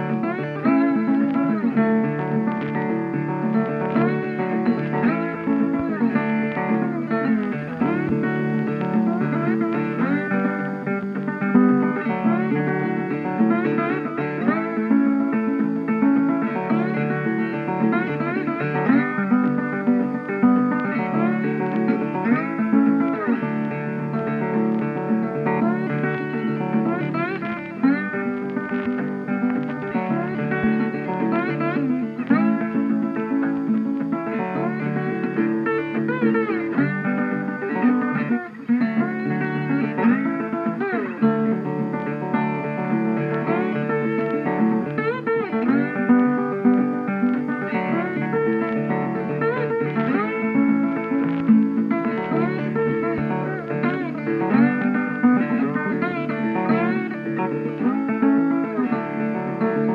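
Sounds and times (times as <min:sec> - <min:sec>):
plucked guitar music: 0:00.0 - 0:59.9.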